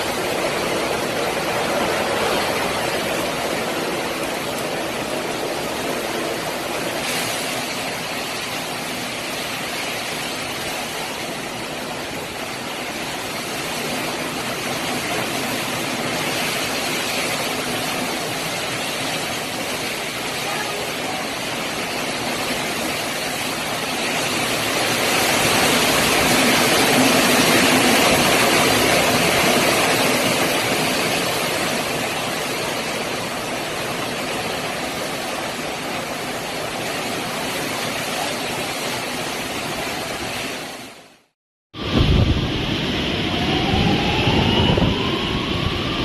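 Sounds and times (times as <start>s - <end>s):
hurricane wind and rain: 0.0s - 46.0s.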